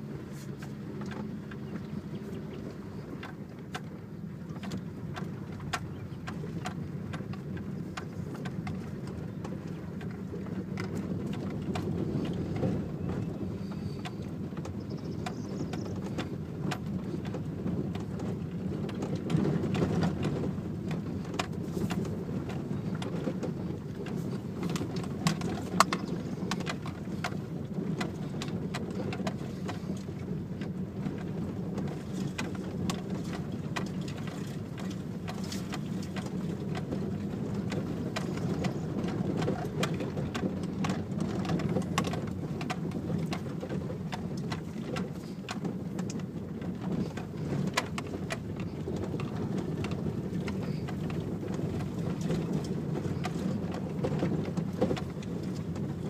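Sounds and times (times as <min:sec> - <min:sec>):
engine and tyres rumbling: 0:00.0 - 0:56.0
rattles and knocks in car: 0:02.9 - 0:56.0.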